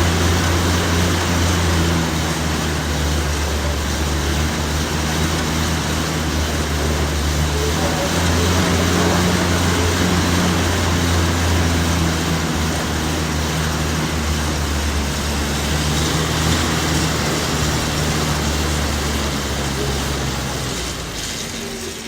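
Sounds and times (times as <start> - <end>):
continuous rushing noise: 0.0 - 22.0.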